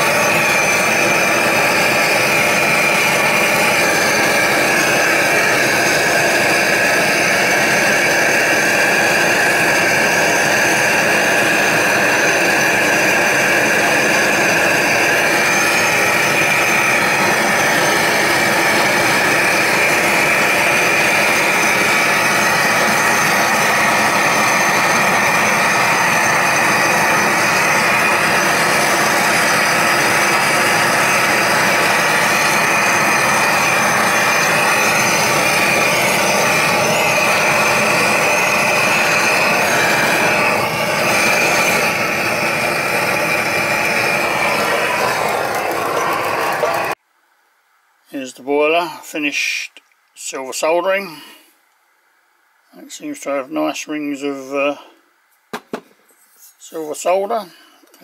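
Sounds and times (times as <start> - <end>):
blowtorch flame burning: 0.0 - 47.0.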